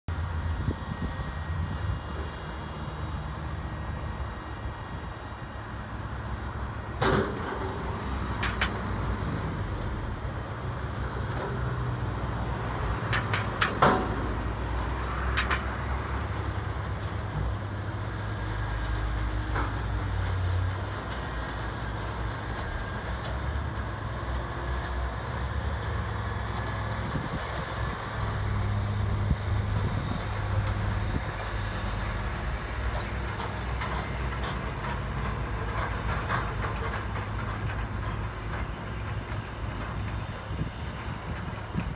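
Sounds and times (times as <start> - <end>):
diesel engines rumbling: 0.1 - 41.9.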